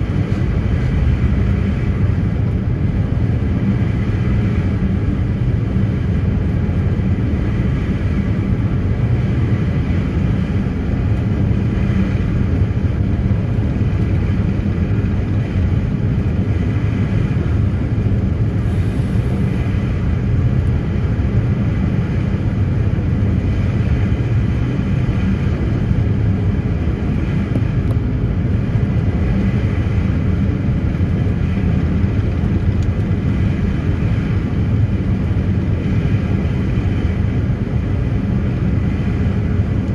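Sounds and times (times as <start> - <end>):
ferry engines rumbling: 0.0 - 39.9.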